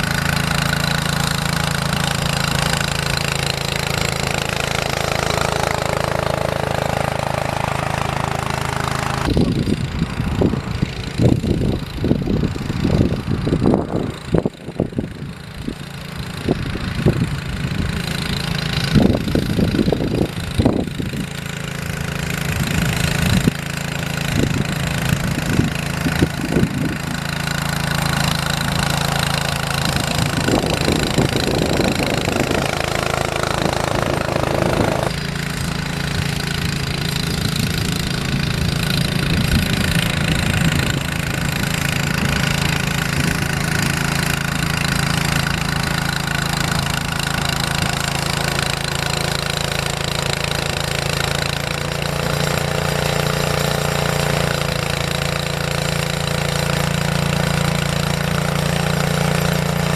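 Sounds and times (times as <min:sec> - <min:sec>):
snow-clearing machine engine: 0:00.0 - 0:59.9.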